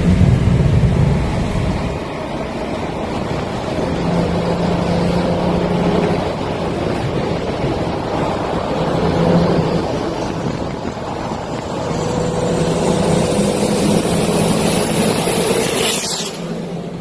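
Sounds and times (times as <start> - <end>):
car engine drone: 0.0 - 17.0
road and wind noise: 0.0 - 17.0.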